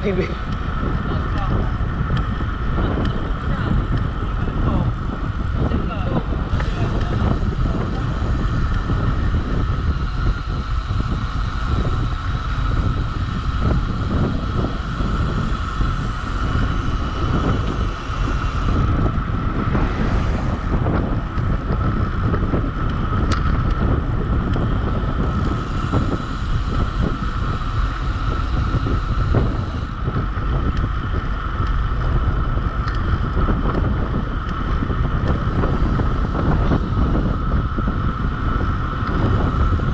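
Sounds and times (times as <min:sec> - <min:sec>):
steady high hum: 0:00.0 - 0:39.9
wind buffeting microphone: 0:00.0 - 0:39.9.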